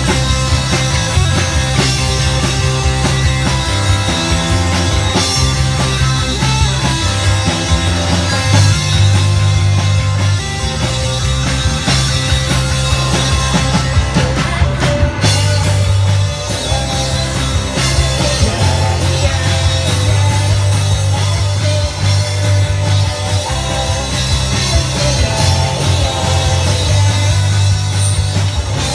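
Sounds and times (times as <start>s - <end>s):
loud rock music: 0.0s - 28.9s.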